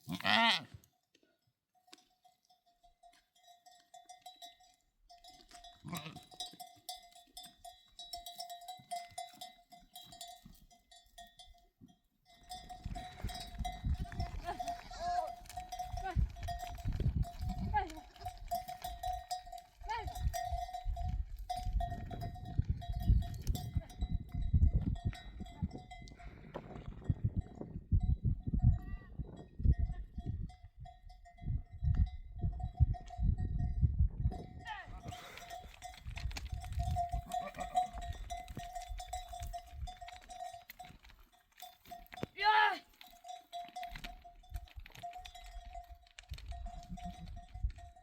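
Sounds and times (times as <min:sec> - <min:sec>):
livestock bell ringing: 0:01.8 - 0:48.0.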